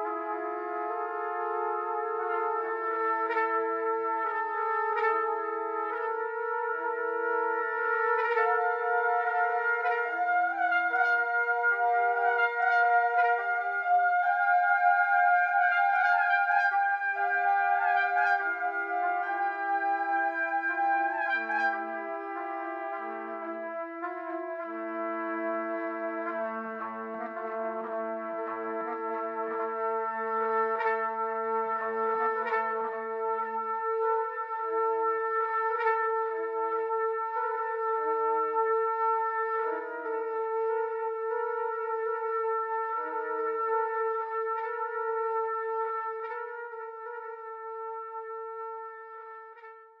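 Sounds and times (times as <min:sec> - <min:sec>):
layered trumpets playing held chords: 0:00.0 - 0:49.7.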